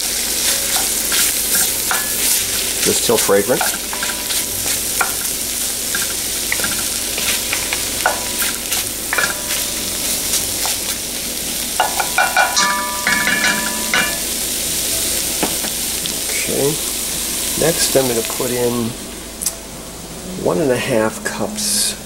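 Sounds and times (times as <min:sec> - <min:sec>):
vegetables sizzling in butter: 0:00.0 - 0:19.6.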